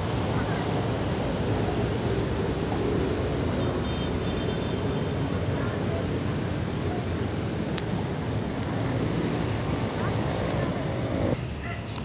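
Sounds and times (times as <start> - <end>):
city background hum: 0.0 - 12.0.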